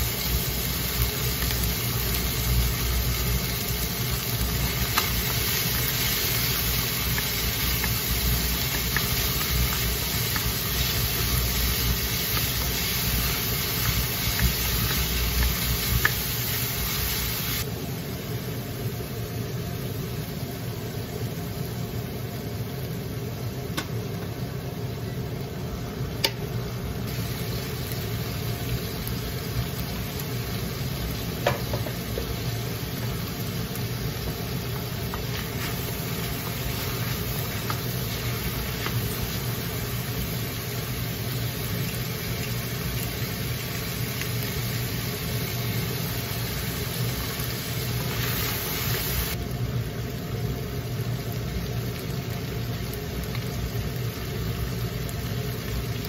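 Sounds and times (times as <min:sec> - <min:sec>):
chicken sizzling in a wok: 0:00.0 - 0:56.0.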